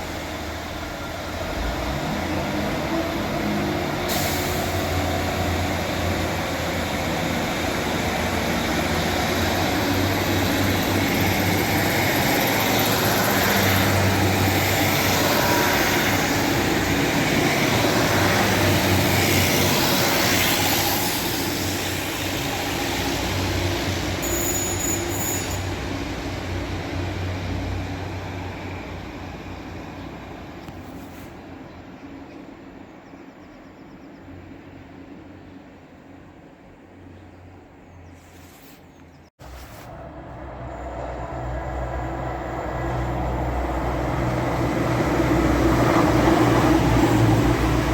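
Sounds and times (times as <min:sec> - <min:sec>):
train wheel rumble: 0:00.0 - 0:32.9, 0:39.4 - 0:47.9
diesel train engine drone: 0:00.0 - 0:38.1, 0:39.4 - 0:47.9.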